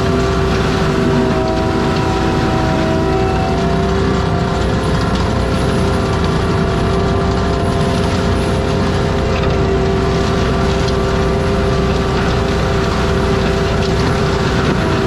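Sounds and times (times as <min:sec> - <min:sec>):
track loader mulcher running: 0:00.0 - 0:15.0.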